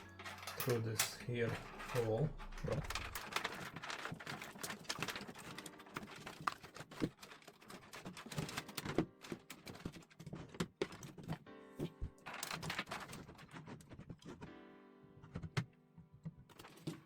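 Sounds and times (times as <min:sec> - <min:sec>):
cables and connectors clicking: 0:00.0 - 0:14.6.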